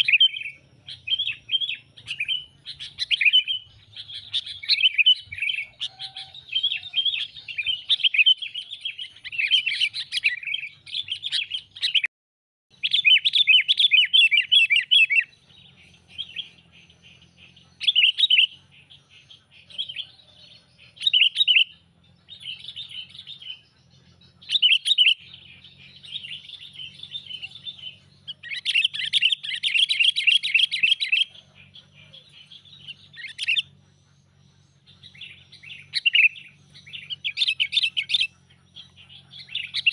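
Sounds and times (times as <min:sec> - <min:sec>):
bulbul chattering calls: 0:00.0 - 0:12.1, 0:12.7 - 0:39.9.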